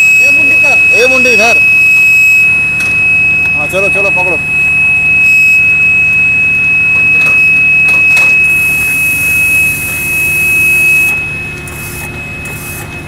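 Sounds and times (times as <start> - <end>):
low hum: 0.0 - 12.7
high-pitched electronic buzzer tone: 0.0 - 13.0.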